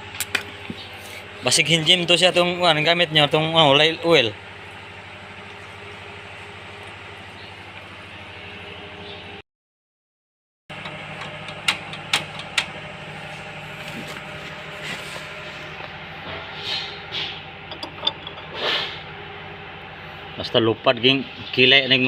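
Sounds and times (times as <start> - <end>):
engine running: 0.0 - 9.4, 10.7 - 22.0.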